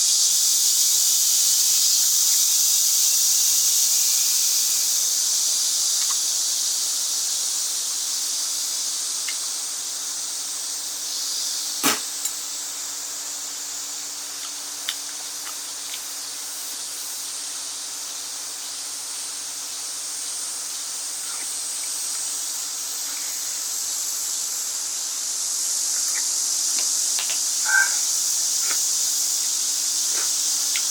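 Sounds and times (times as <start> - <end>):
insect chorus drone: 0.0 - 30.9.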